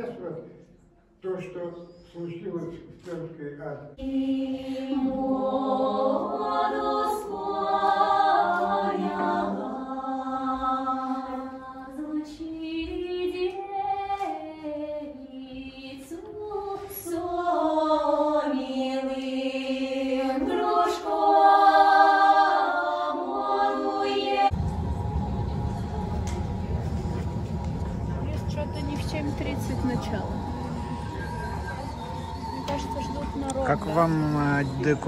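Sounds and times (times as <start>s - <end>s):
choir singing: 4.0s - 35.0s.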